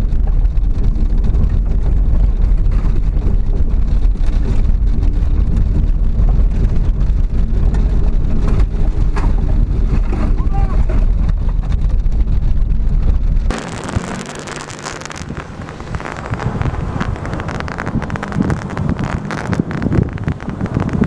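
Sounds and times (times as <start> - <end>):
vehicle engine rumbling: 0.0 - 21.0
wind buffeting microphone: 0.0 - 21.0.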